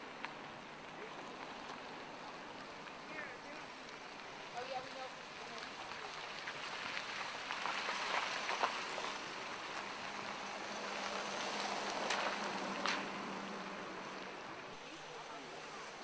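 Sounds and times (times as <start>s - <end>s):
hiss-like outdoor background noise: 0.0s - 16.0s.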